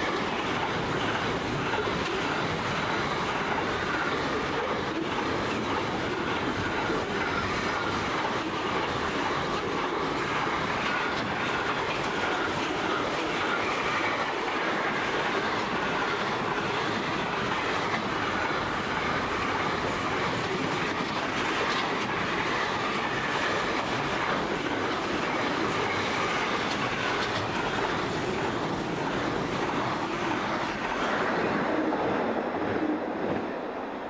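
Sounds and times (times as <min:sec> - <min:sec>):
freight train wheels rumbling on rails: 0:00.0 - 0:34.0.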